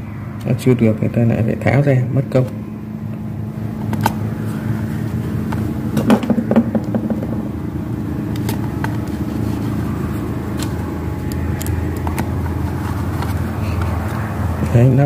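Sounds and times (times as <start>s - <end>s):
low rumbling hum: 0.0s - 15.0s.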